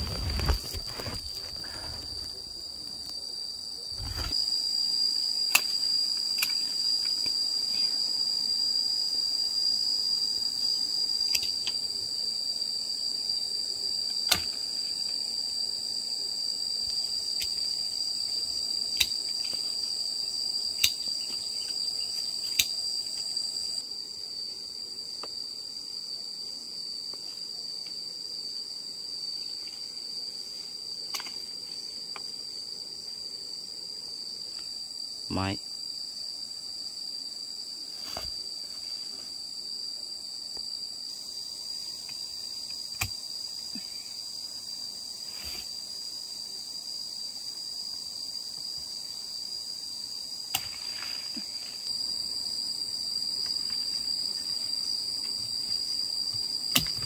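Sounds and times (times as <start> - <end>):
higher insect buzz: 0.0 - 57.0
insect chorus: 0.0 - 57.0.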